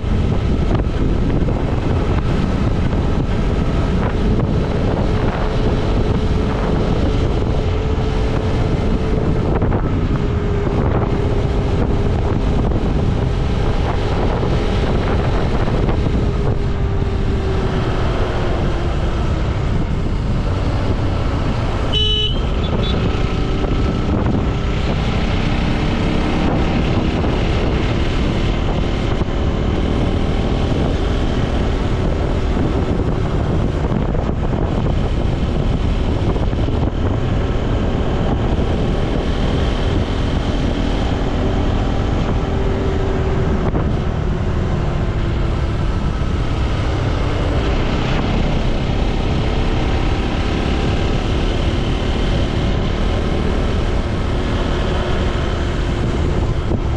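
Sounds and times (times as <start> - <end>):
wind rush on microphone: 0.0 - 56.9.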